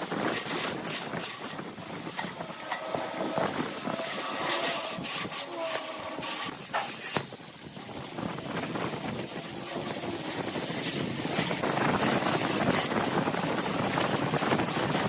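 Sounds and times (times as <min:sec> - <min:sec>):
tool scraping turning surface: 0:00.0 - 0:15.0
wood lathe spinning: 0:00.0 - 0:15.0.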